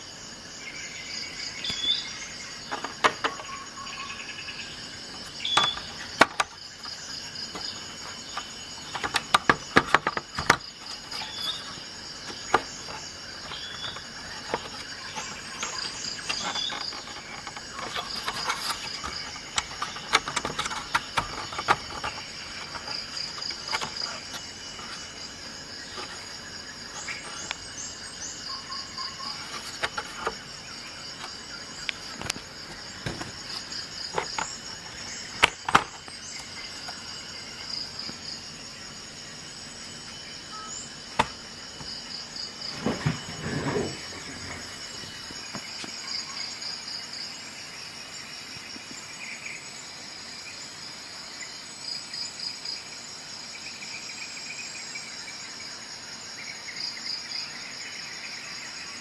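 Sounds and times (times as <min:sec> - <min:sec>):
insect chirping trills: 0:00.0 - 0:59.0.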